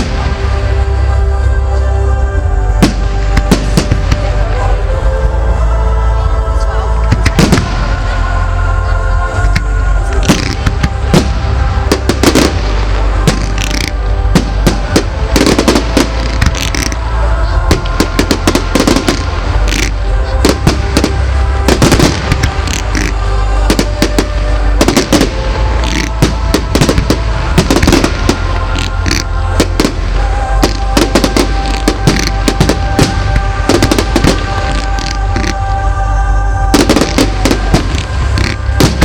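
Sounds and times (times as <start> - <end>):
fireworks bangs and crackles: 0.0 - 1.2, 2.6 - 5.5, 7.0 - 35.9, 36.6 - 39.0
music playing: 0.0 - 39.0.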